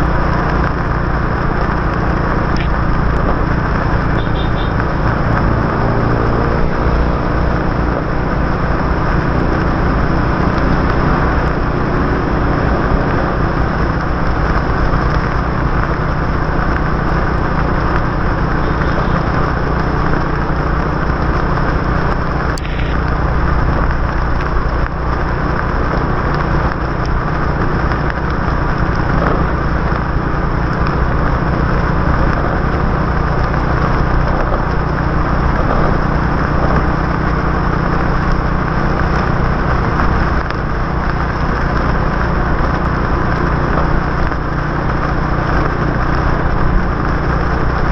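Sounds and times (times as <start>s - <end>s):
motorbike engine hum: 0.0s - 47.9s
tyre and wind noise: 0.0s - 47.9s.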